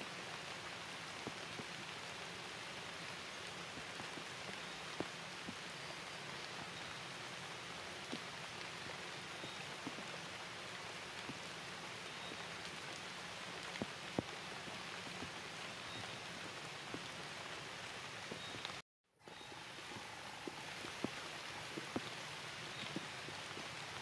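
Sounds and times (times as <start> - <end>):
steady rain falling: 0.0 - 24.0
raindrops ticking: 0.2 - 24.0.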